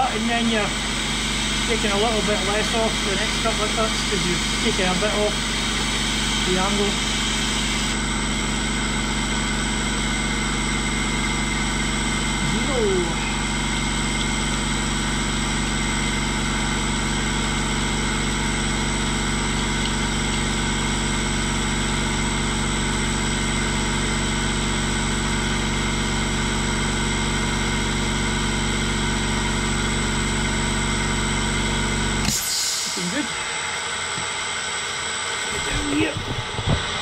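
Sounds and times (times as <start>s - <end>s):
milling machine motor hum: 0.0s - 37.0s.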